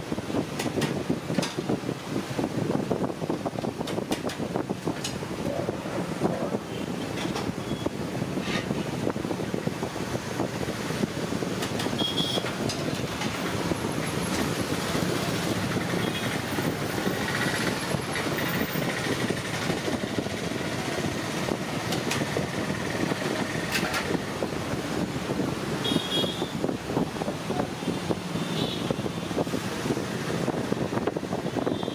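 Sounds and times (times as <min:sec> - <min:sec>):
street traffic: 0:00.0 - 0:31.9.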